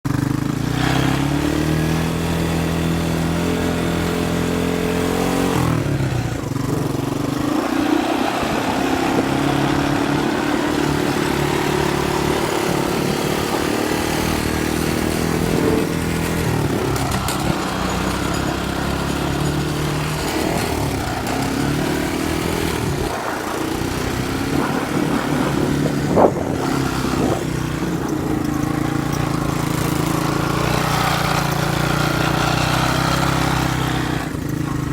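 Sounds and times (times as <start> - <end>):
small engines revving: 0.1 - 34.9.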